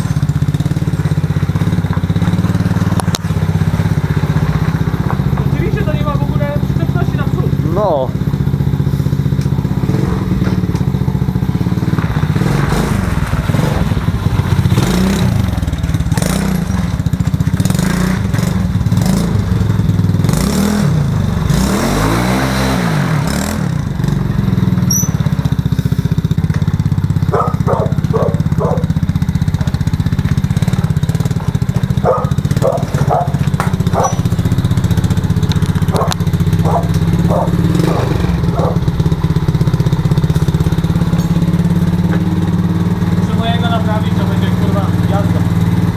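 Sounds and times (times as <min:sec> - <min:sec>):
quad bike engine revving: 0:00.0 - 0:45.9.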